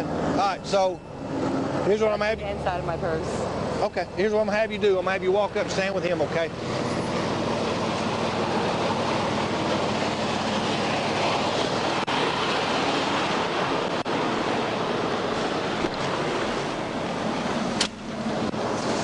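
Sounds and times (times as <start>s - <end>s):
highway traffic rushing past: 0.0s - 19.0s.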